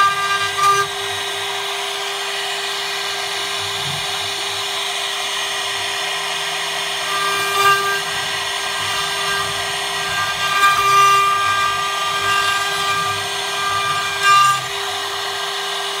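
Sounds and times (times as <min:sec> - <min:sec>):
router spindle carving wood: 0:00.0 - 0:16.0.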